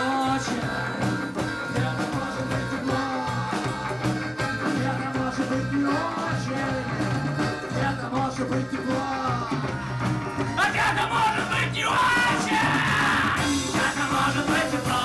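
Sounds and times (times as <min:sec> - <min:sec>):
live band playing: 0:00.0 - 0:15.0
steady drum beat: 0:00.0 - 0:15.0.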